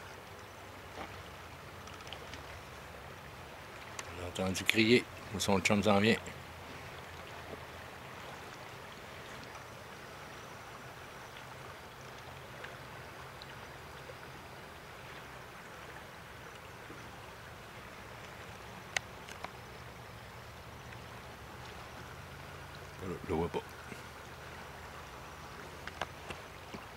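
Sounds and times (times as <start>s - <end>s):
river flowing: 0.0s - 26.9s.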